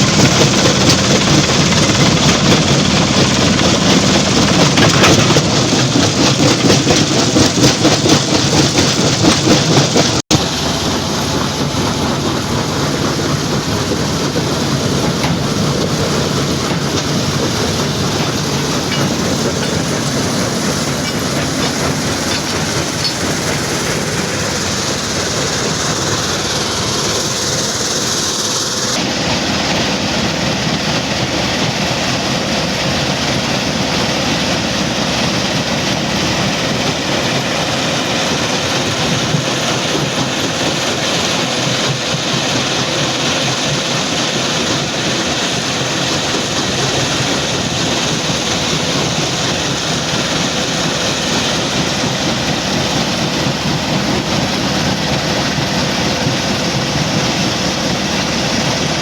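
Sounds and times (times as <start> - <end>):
rock crusher clattering: 0.0 - 29.0, 30.5 - 59.0.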